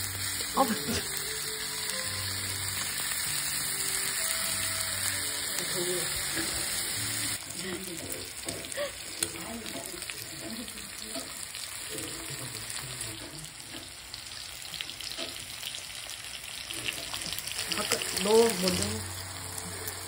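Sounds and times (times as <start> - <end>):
meat sizzling on a grill pan: 0.0 - 20.0.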